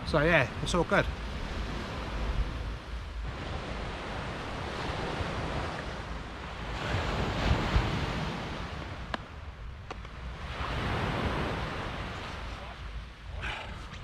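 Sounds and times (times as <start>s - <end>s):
wind rumbling on microphone: 0.0s - 14.0s
surf washing onto beach: 0.2s - 13.3s.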